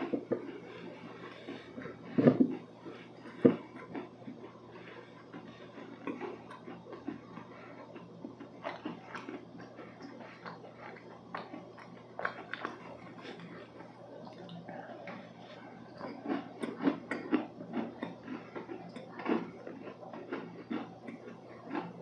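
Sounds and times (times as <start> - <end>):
chewing soft cookie: 0.0 - 22.0.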